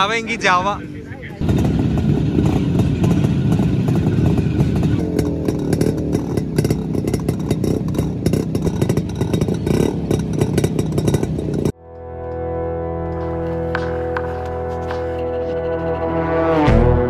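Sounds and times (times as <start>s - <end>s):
motorcycle engines running slowly: 0.0s - 17.0s
exhaust crackling pops: 1.4s - 16.1s.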